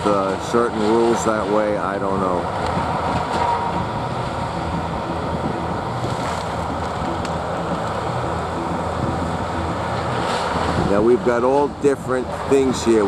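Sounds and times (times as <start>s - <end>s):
heavy trucks rumbling: 0.0s - 13.0s
wind buffeting microphone: 0.0s - 13.0s.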